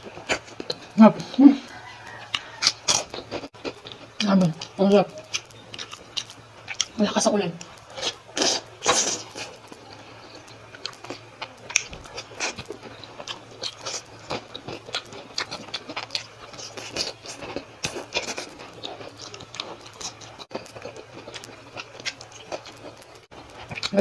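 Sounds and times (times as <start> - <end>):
chewing and mouth sounds: 0.0 - 24.0.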